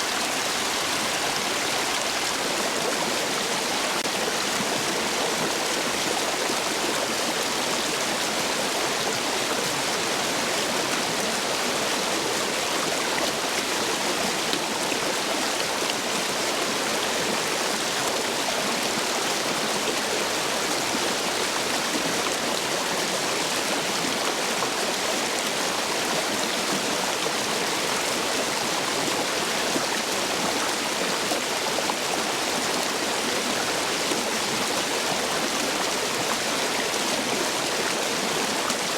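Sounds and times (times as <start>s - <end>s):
stream water rushing over stones: 0.0s - 38.9s.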